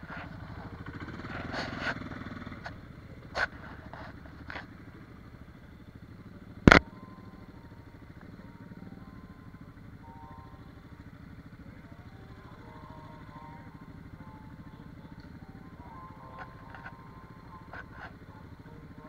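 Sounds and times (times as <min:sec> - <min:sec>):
quad engine on gravel: 0:00.0 - 0:19.0.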